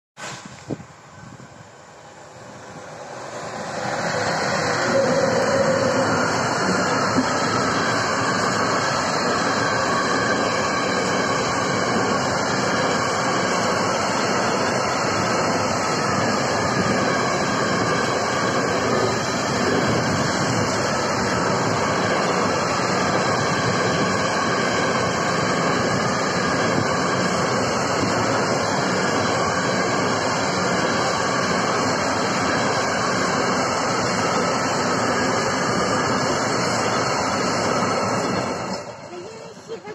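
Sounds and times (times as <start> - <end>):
freight train wheels on rails: 0.2 - 39.9.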